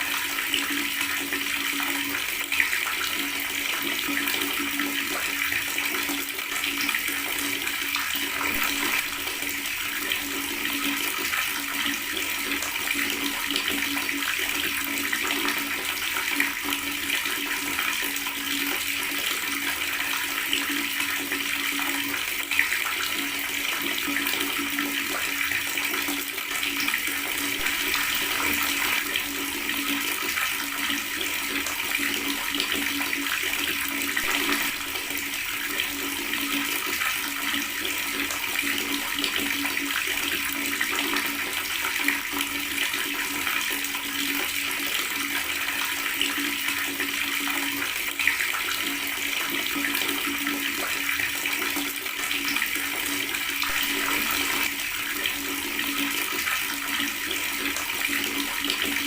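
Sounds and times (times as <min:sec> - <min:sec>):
water tap running: 0:00.0 - 0:59.0.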